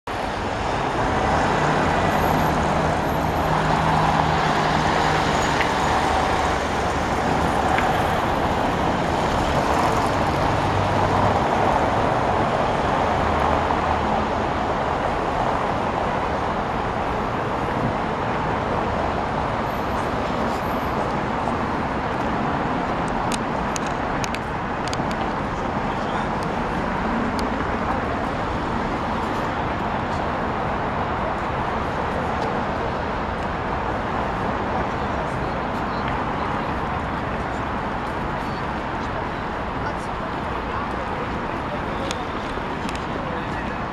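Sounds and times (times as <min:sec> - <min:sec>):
cars and trucks driving past: 0:00.1 - 0:43.9.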